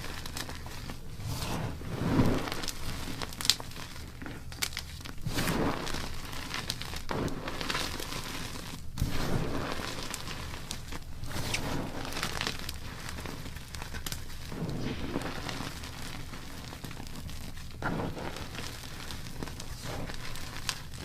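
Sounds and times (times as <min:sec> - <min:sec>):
chalk being crushed by hand: 0:00.0 - 0:21.0.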